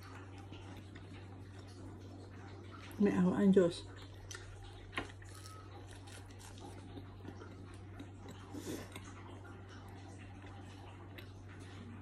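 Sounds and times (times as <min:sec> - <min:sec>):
person chewing bread: 0:00.0 - 0:03.0, 0:03.9 - 0:12.0.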